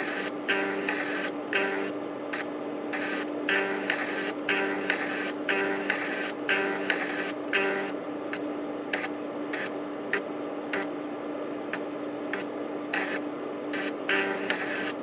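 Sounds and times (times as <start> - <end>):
floppy drive motor hum: 0.0 - 15.0.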